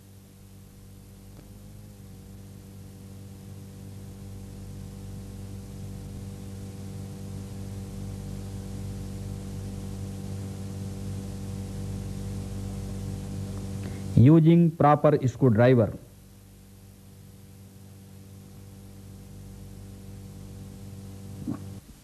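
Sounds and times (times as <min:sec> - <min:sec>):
electrical mains hum: 0:00.0 - 0:22.0
faint hiss: 0:00.0 - 0:22.0.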